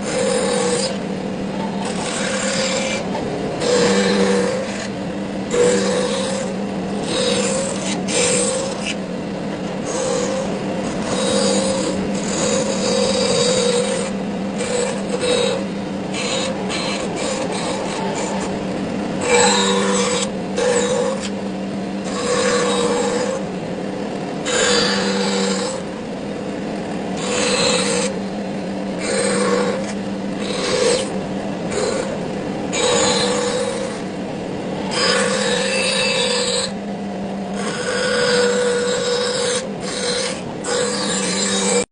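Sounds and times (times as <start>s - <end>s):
woodworking machine motor hum: 0.0s - 41.9s.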